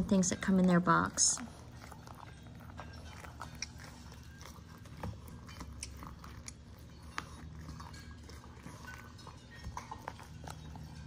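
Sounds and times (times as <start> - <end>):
dog chewing crunches: 0.0 - 11.0.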